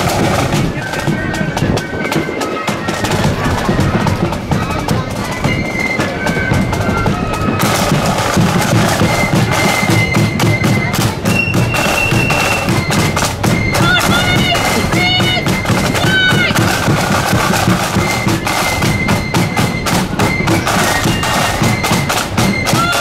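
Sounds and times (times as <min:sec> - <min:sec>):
snare and bass drums: 0:00.0 - 0:23.0
shrill flute notes: 0:01.3 - 0:23.0.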